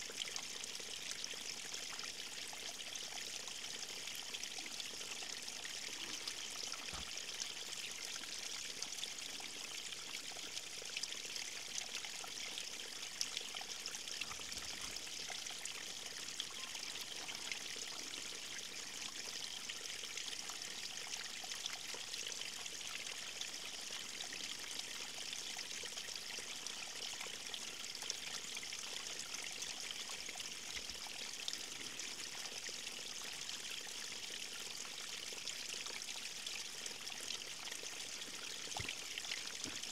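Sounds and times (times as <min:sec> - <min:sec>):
stream water flowing and trickling: 0:00.0 - 0:39.9.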